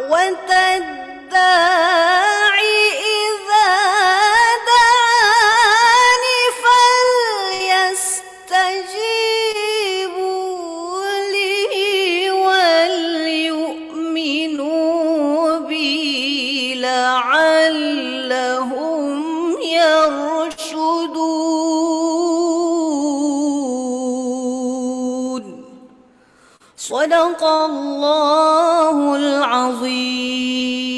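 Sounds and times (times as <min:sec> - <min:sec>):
woman chanting melodically: 0:00.0 - 0:25.8, 0:26.8 - 0:30.9.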